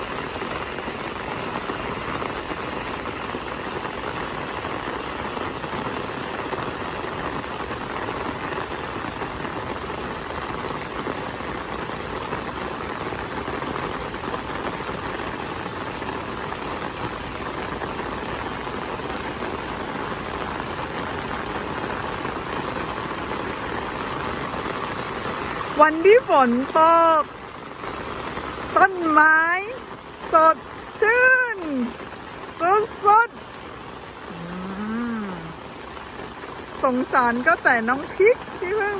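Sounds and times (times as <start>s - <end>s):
rain falling on plants: 0.0s - 38.9s.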